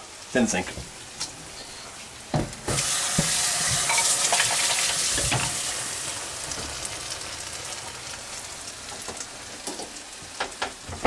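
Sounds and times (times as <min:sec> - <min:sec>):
sauce sizzling in frying pan: 0:00.0 - 0:11.0.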